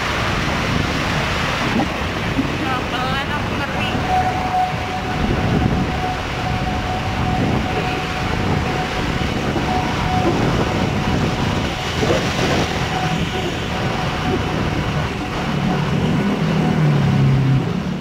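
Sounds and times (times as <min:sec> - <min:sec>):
engine and tyre rumble: 0:00.0 - 0:18.0
road and wind noise: 0:00.0 - 0:18.0.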